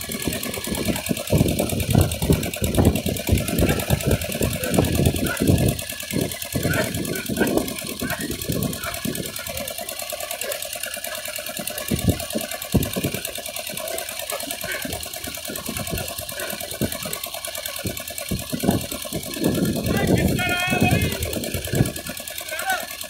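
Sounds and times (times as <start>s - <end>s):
engine clattering: 0.0s - 23.0s.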